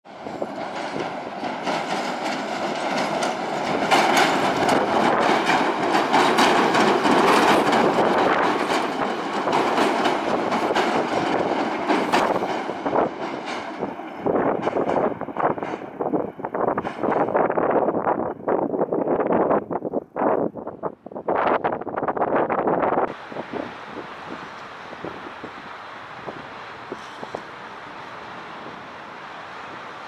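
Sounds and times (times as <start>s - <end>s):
wheels clattering over rail joints: 0.1s - 20.0s, 21.9s - 30.0s
electric train passing: 0.1s - 30.0s.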